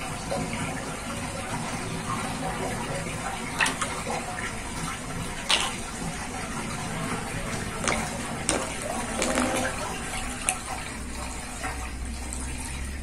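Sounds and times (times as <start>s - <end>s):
sharp water drips: 0.0s - 13.0s
water swirling down drain: 0.0s - 13.0s.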